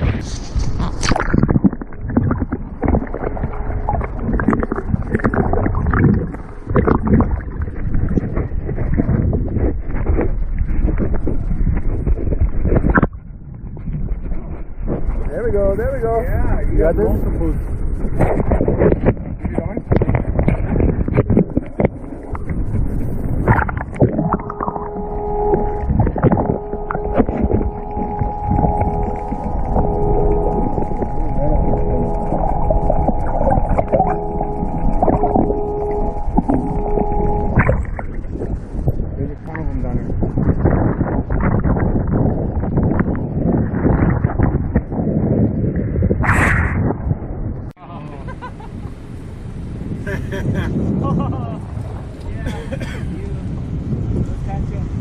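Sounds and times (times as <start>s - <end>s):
water splashing against kayak: 0.0s - 15.3s, 18.0s - 46.7s
steady hum with held tones: 0.0s - 46.0s, 46.8s - 54.0s
wind buffeting microphone: 0.0s - 55.0s.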